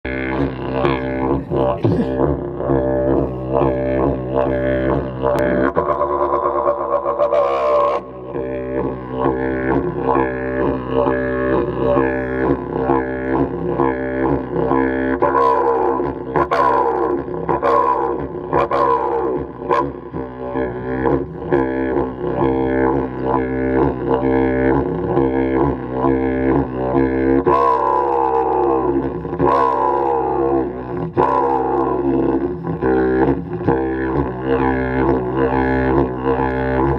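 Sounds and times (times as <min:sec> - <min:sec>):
didgeridoo drone: 0:00.0 - 0:36.9.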